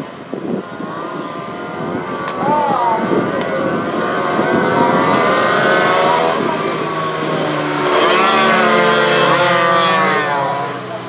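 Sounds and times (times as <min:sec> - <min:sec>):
racing motorcycle engines revving: 0:00.0 - 0:11.0.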